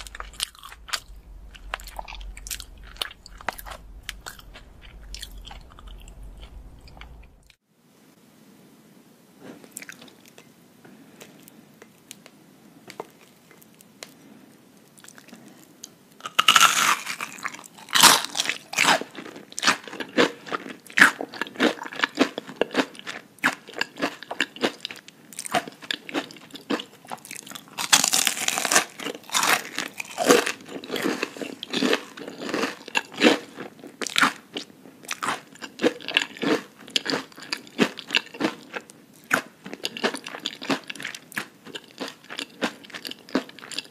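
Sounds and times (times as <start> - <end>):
crunchy onion rings being chewed: 0.0 - 7.5, 9.6 - 10.5, 12.9 - 43.9.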